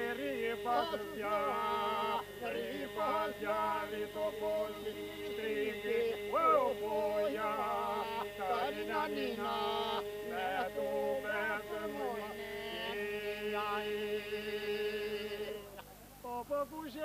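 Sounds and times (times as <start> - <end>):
group vocal drone: 0.0 - 15.9
men singing polyphony: 0.0 - 17.0.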